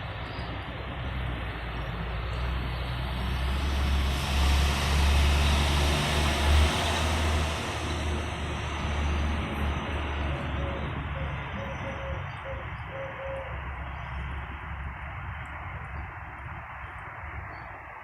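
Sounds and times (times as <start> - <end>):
deep rumble overhead: 0.0 - 18.0.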